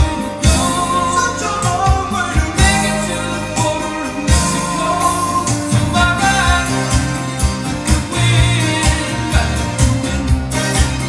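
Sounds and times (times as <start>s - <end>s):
song with vocals and drums: 0.0s - 11.0s.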